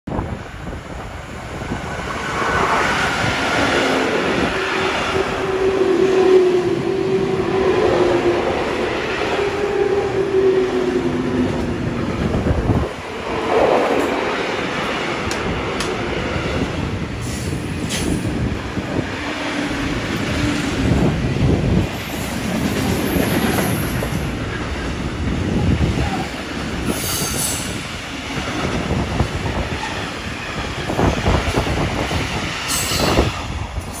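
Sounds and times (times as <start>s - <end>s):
freight train wheels rumbling on rail: 0.1s - 34.0s.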